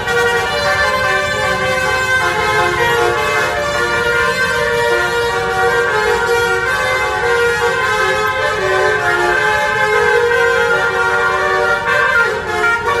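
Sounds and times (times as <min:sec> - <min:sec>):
musical bus horn tune: 0:00.0 - 0:13.0.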